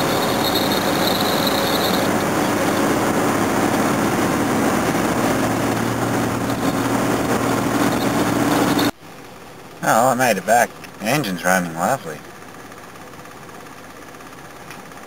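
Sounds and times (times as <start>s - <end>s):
car engine running: 0.0s - 15.0s
road noise: 0.0s - 15.0s.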